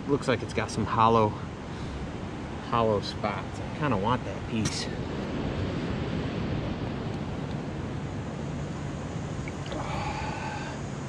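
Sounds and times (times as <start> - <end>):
water at shore: 0.0 - 11.0.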